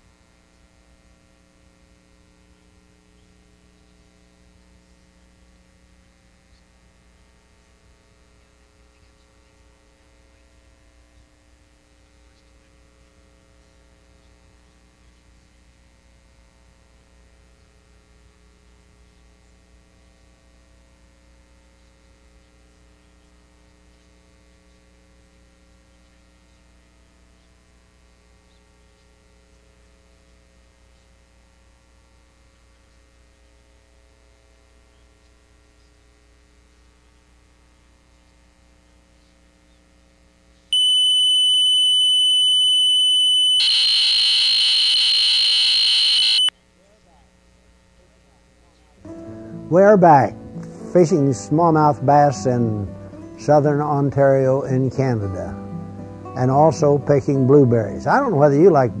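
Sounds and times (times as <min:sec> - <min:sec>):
faint electrical mains hum: 0:00.0 - 0:59.0.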